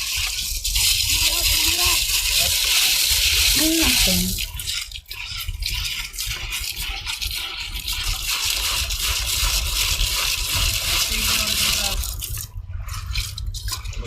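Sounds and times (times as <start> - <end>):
scraping and splashing: 0.0 - 14.0
water sloshing and pouring: 0.0 - 14.0.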